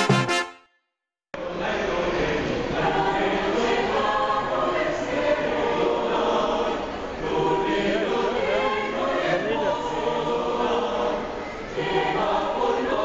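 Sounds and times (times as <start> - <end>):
mixed choir singing: 1.4 - 13.0.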